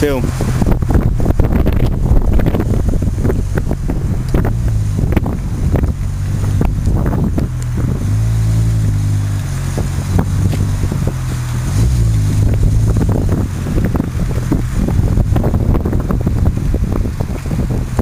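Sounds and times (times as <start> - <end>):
car engine running: 0.0 - 18.0
wind buffeting microphone: 0.0 - 18.0.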